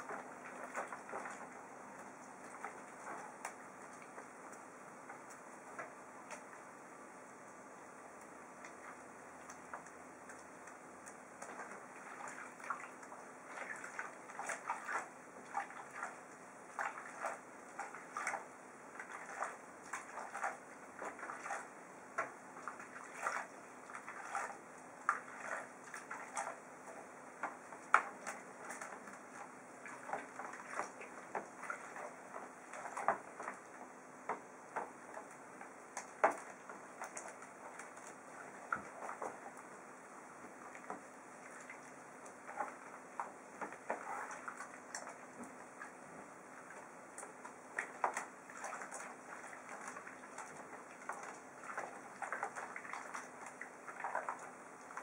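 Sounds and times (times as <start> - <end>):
hands splashing soapy water: 0.0 - 6.5, 8.6 - 39.7, 46.6 - 55.0
water dripping: 0.0 - 6.8, 8.2 - 55.0.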